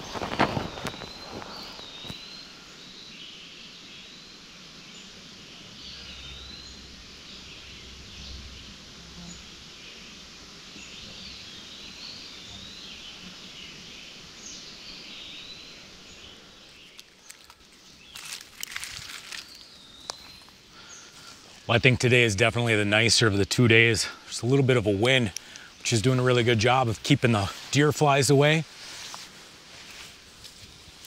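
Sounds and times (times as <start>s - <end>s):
songbirds singing: 0.0s - 31.0s
steady outdoor hiss: 0.0s - 31.0s.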